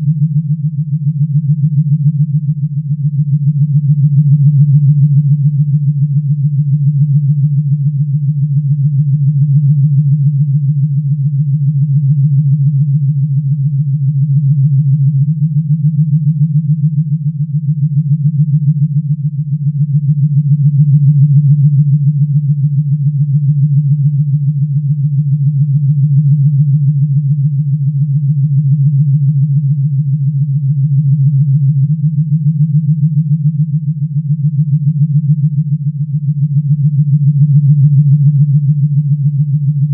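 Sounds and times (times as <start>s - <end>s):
synthesized fluttering hum: 0.0s - 39.9s.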